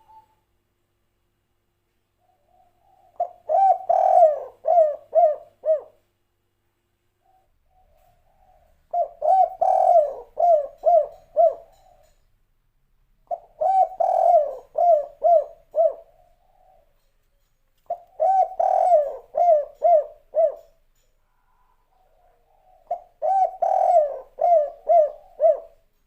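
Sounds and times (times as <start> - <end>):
dove cooing: 0.0 - 0.4, 2.2 - 6.0, 7.2 - 12.2, 13.3 - 17.1, 17.9 - 26.0.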